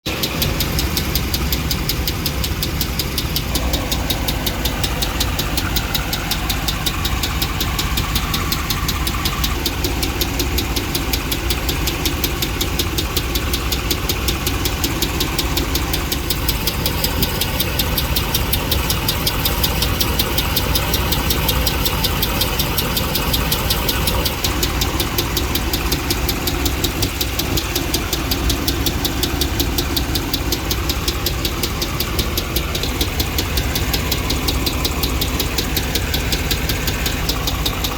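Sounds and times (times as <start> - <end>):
engine idling: 0.0 - 37.9
rapid engine ticking: 0.0 - 37.9.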